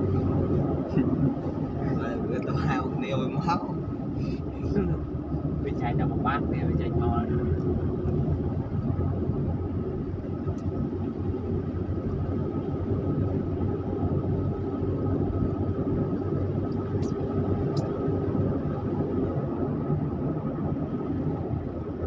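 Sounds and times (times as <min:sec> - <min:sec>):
car engine and tyre drone: 0:00.0 - 0:22.0.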